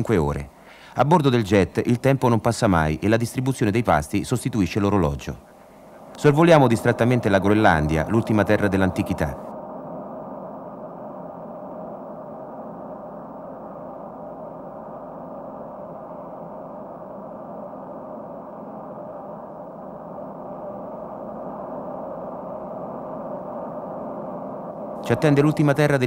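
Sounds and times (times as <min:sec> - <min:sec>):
muffled jet engine drone: 0:03.4 - 0:26.0.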